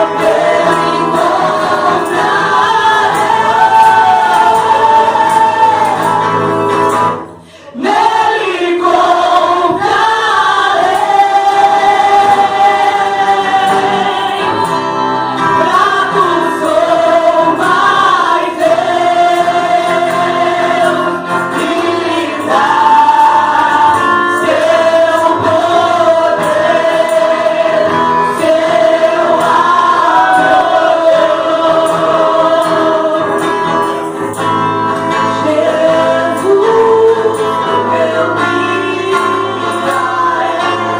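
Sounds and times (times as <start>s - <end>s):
choir singing gospel music: 0.0s - 40.9s.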